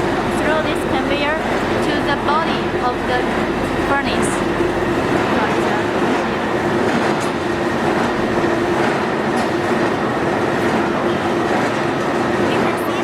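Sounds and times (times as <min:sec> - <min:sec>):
conveyor mechanical din: 0:00.0 - 0:13.0
motors humming: 0:00.0 - 0:13.0.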